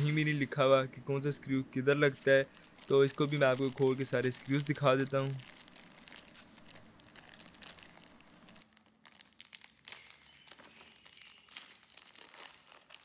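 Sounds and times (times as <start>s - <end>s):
plastic bag crinkling: 2.1s - 13.0s.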